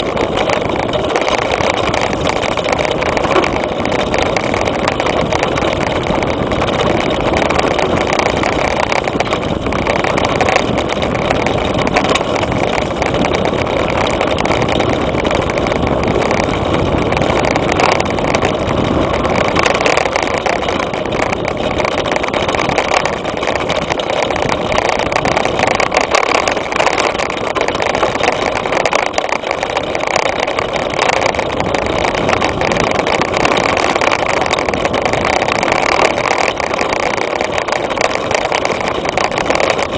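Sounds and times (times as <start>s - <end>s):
bike rattling and knocking: 0.0s - 39.9s
wind rushing over microphone: 0.0s - 39.9s.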